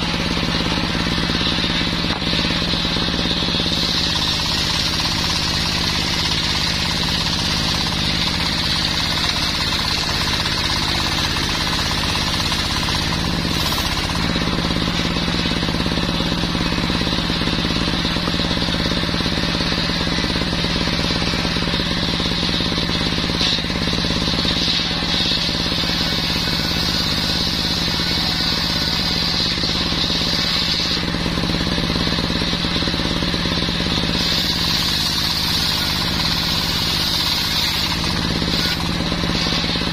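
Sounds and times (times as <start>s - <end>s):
engine drone: 0.0s - 39.9s
saw blade cutting whine: 0.0s - 39.9s.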